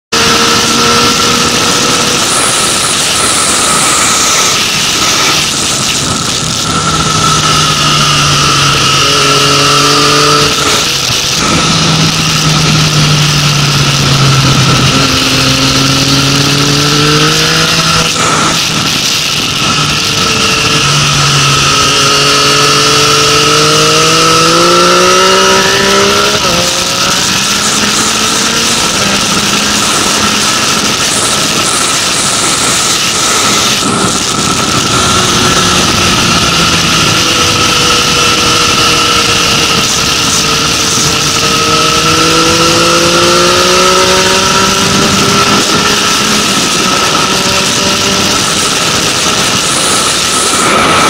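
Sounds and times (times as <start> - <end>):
motorcycle engine revving: 0.0 - 51.0
wind noise on microphone: 0.1 - 51.0.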